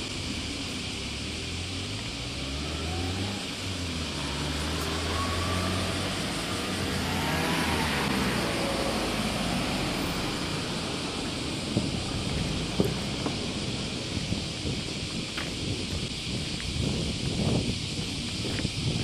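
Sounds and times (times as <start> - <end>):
car passing: 0.0 - 17.0
low traffic engine hum: 0.0 - 19.0.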